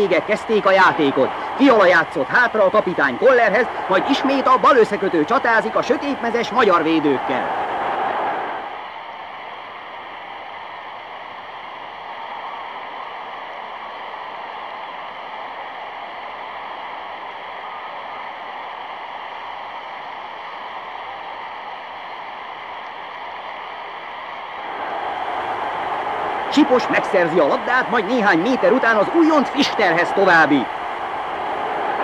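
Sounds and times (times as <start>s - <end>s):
steady rushing noise: 0.0s - 32.0s.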